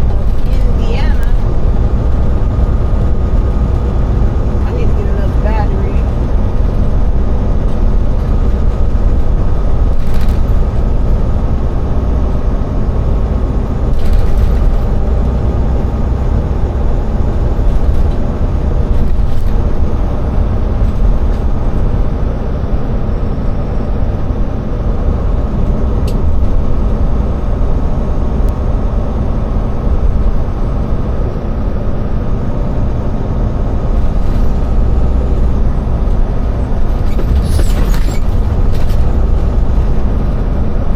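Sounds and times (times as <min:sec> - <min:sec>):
diesel engine and road noise: 0:00.0 - 0:40.9.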